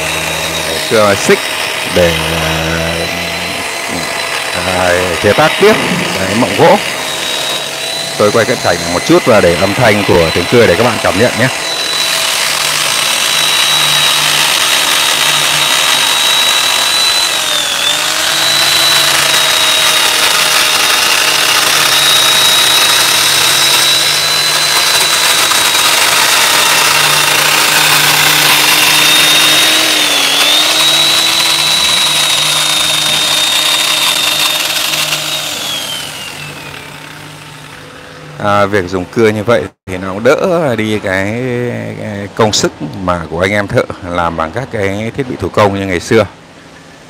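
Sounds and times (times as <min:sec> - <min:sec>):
electric chainsaw cutting wood: 0:00.0 - 0:39.0.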